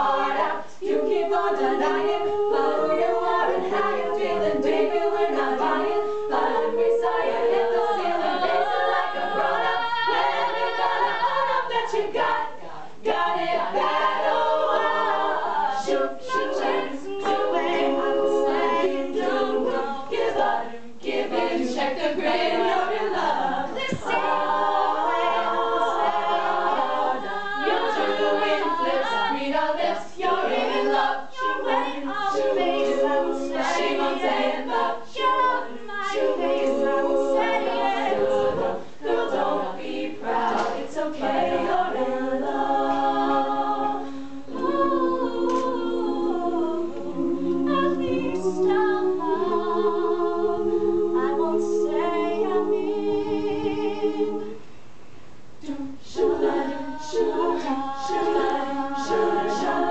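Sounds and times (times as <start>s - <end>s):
female group singing a cappella: 0.0s - 54.8s, 55.6s - 59.9s.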